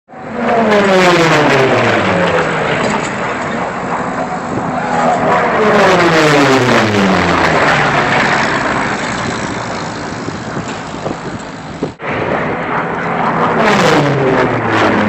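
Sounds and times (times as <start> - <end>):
propeller airplanes flying past: 0.1 - 15.0.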